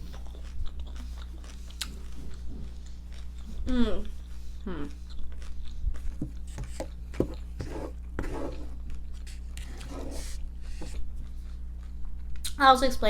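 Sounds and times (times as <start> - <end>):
person chewing food: 0.0 - 12.6
steady low hum: 0.0 - 13.0.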